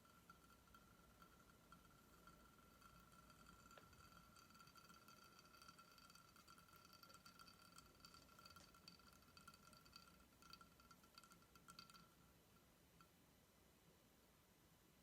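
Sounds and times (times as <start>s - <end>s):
faint ticks and clicks: 0.0s - 13.3s
faint high-pitched whine: 0.0s - 15.0s.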